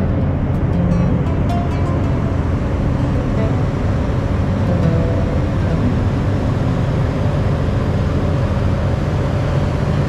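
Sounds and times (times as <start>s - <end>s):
faint steady hum: 0.0s - 10.0s
low outdoor rumble: 0.0s - 10.0s.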